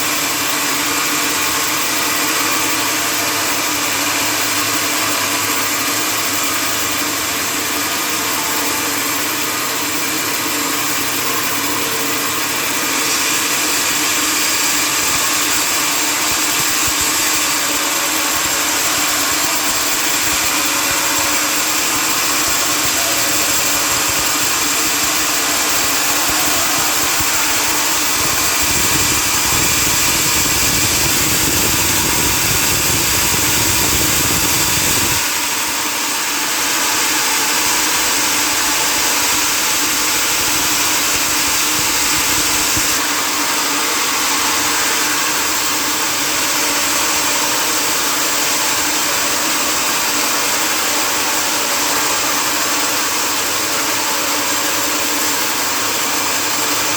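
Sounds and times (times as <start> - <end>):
sawmill motor rumbling: 0.0 - 56.9.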